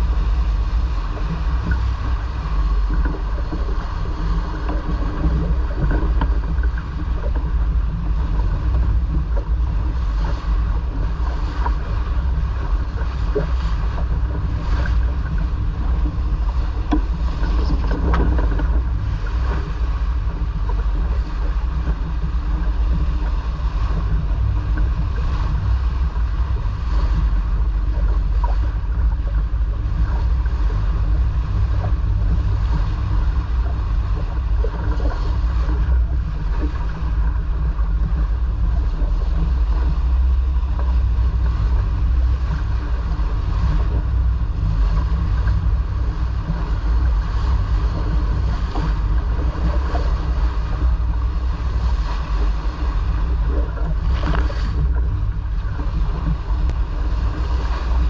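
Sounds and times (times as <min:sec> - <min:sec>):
water splashing along hull: 0:00.0 - 0:58.0
wind buffeting microphone: 0:00.0 - 0:58.0.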